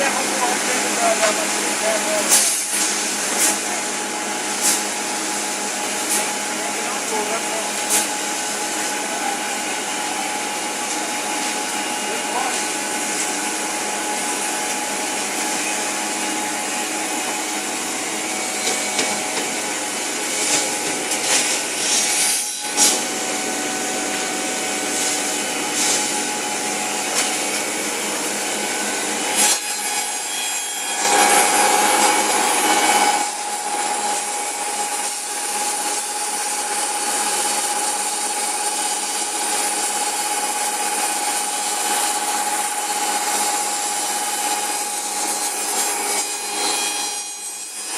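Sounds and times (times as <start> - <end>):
milling machine whining: 0.0 - 47.9.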